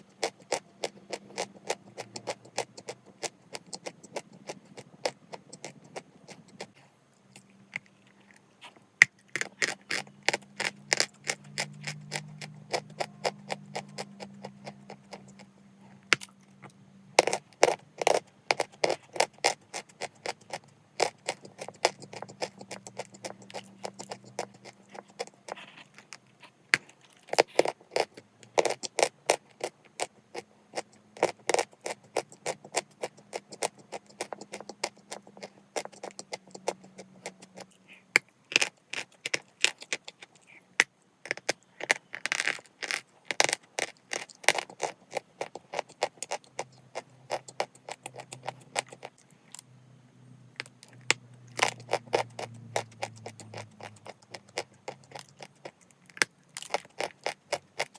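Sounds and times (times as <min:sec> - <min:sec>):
chalk crunching being chewed: 0:00.0 - 0:49.6, 0:50.6 - 0:57.9
faint low hum: 0:00.0 - 0:57.9.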